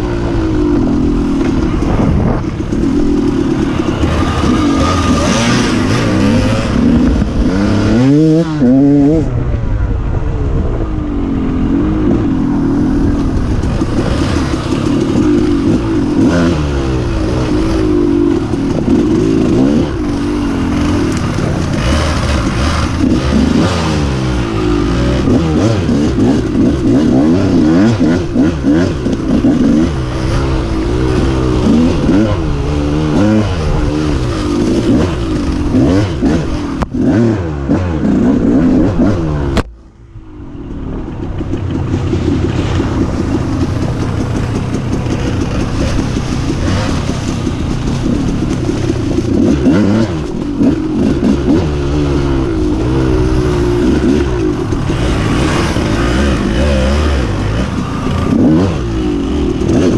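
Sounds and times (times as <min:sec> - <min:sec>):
dirt bike engine revving: 0:00.0 - 0:09.3, 0:11.2 - 0:39.7, 0:40.9 - 0:59.9.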